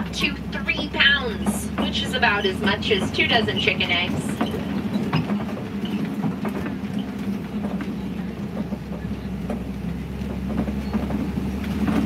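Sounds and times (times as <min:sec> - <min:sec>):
truck engine drone: 0:00.0 - 0:12.0
vehicle body knocks and rattles: 0:00.0 - 0:12.0.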